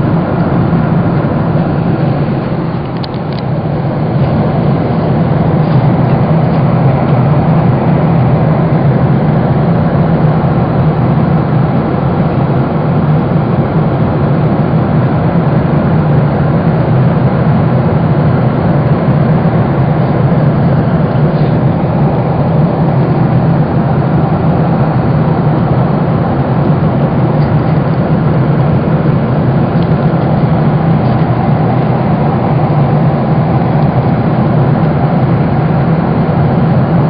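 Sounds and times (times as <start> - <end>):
jet engines humming in cabin: 0.0 - 37.0.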